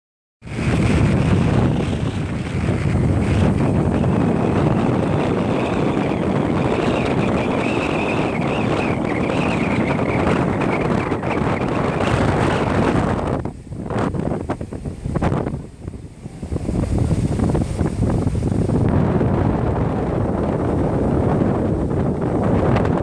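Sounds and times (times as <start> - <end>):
surf rushing: 0.4 - 23.0
wind buffeting microphone: 0.4 - 23.0.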